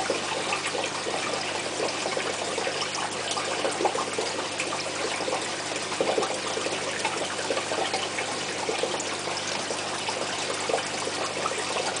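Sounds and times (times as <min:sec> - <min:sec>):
aquarium water trickling and bubbling: 0:00.0 - 0:12.0.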